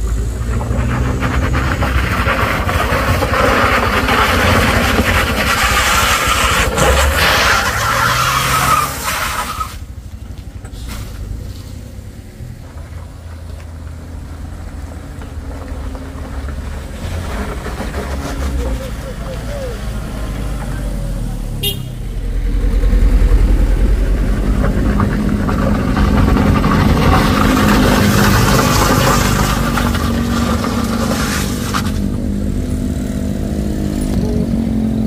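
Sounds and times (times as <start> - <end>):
tyres on loose gravel: 0.0 - 34.7
car engine pulling hard: 0.0 - 35.0.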